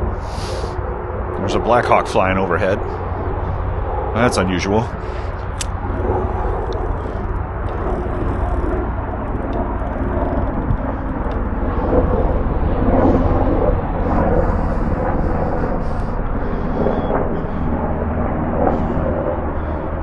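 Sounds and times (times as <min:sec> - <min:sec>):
helicopter rotor drone: 0:00.0 - 0:20.0.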